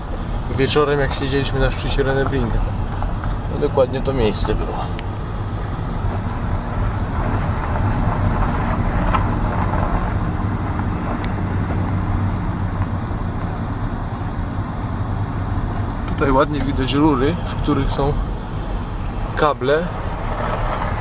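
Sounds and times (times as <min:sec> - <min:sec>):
engine humming steadily: 0:00.0 - 0:21.0.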